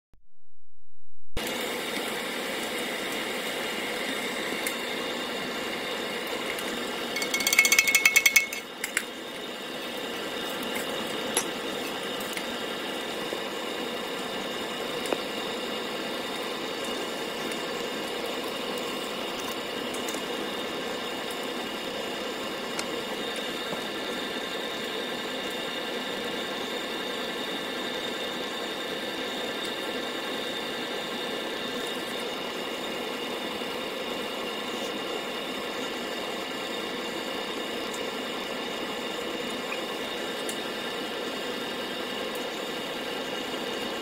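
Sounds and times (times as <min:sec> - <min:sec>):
furnace burner and blower drone: 0:01.4 - 0:44.0.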